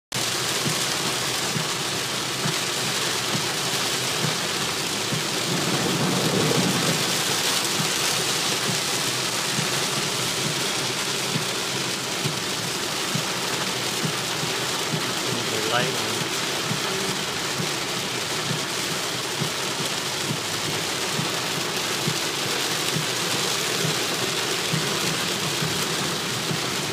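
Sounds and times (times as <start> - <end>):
heavy rain on car roof: 0.1 - 26.9.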